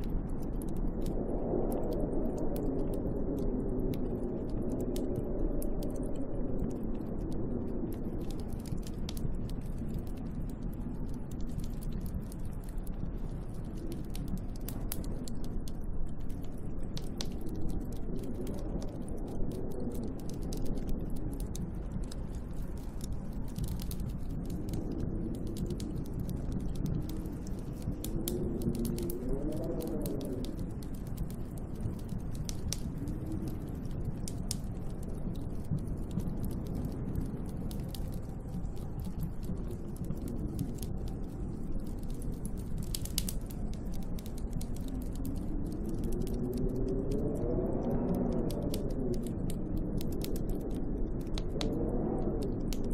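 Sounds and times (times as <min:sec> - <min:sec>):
wind howling in gusts: 0:00.0 - 0:52.9.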